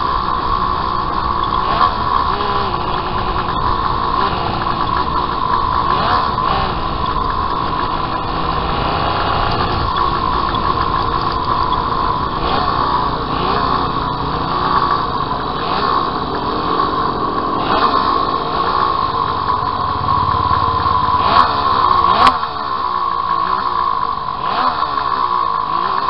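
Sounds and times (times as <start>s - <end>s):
racing motorcycle engine: 0.0s - 26.0s.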